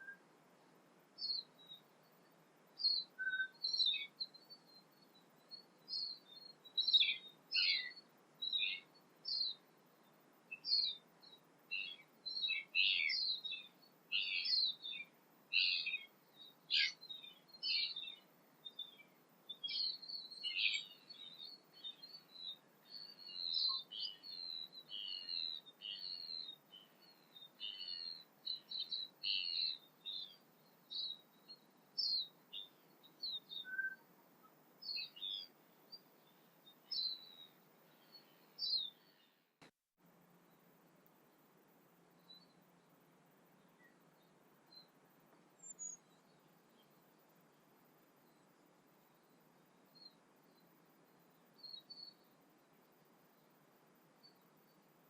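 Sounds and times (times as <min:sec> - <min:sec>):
faint background hiss: 0:00.0 - 0:55.0
songbirds chirping: 0:00.0 - 0:55.0.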